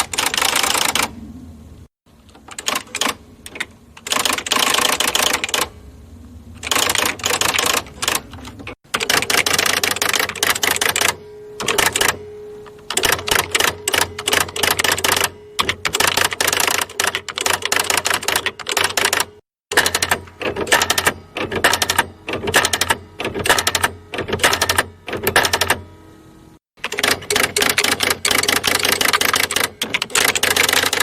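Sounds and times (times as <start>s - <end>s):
typewriter key strikes: 0.0s - 1.1s, 2.3s - 5.7s, 6.6s - 12.2s, 12.9s - 25.9s, 26.8s - 31.0s
typewriter motor hum: 0.0s - 1.2s, 2.2s - 5.8s, 6.6s - 25.9s, 26.8s - 31.0s.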